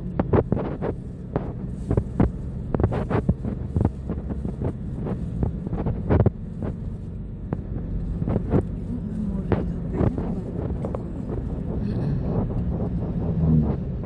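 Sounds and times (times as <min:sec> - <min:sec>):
vehicle rumble from inside: 0:00.0 - 0:14.0.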